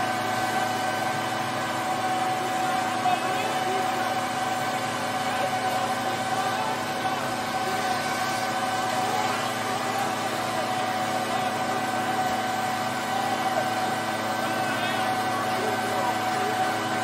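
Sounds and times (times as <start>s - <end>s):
engine-driven machine droning: 0.0s - 17.0s.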